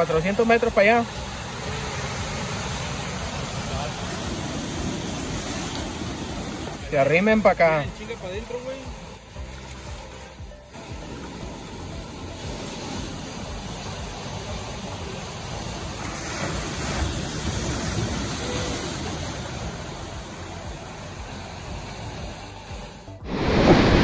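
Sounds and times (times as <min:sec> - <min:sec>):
surf washing onto shore: 0:00.0 - 0:24.0.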